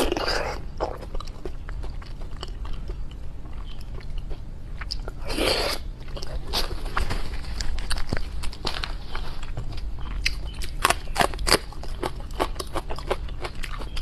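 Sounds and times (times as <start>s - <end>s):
biting and chewing: 0.0s - 14.0s.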